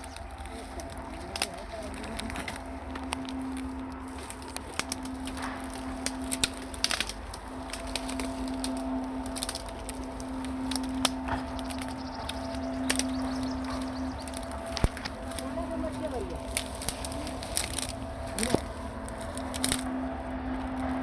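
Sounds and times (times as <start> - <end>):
low hum: 0.0 - 21.0
twigs snapping underfoot: 0.0 - 21.0.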